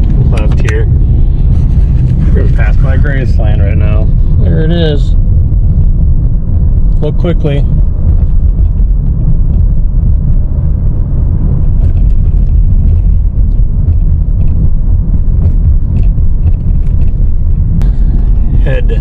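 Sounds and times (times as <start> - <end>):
car engine rumble: 0.0 - 19.0
tyre road noise: 0.0 - 19.0.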